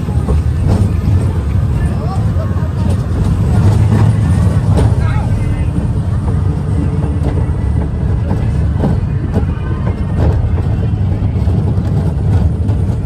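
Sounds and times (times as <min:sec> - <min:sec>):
roller coaster rumble on track: 0:00.0 - 0:13.0.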